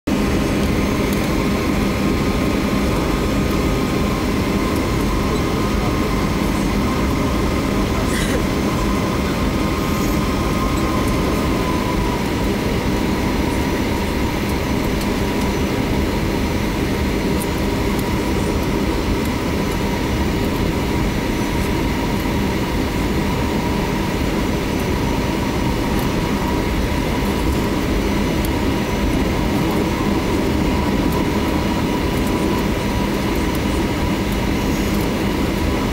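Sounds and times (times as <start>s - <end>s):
jet engines humming and whining: 0.1s - 35.9s.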